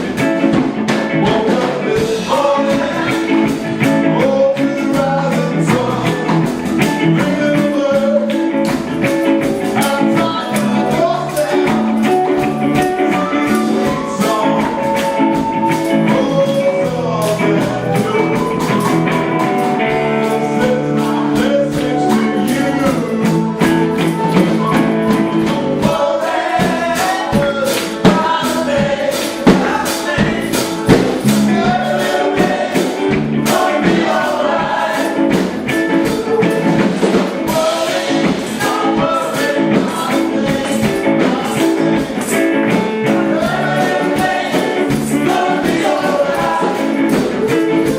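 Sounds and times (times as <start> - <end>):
song with singing: 0.0 - 47.9
steady percussive beat: 0.0 - 47.9.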